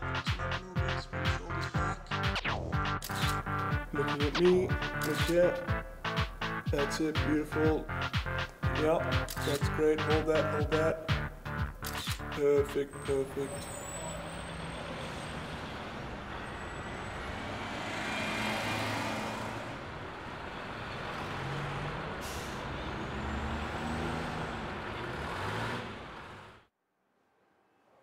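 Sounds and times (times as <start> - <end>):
heavy vehicles passing: 3.4 - 26.7.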